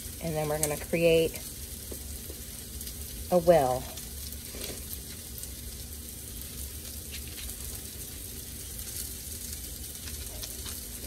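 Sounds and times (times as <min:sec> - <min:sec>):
onions sizzling in a pan: 0:00.0 - 0:11.0
faint crackles: 0:00.1 - 0:11.0.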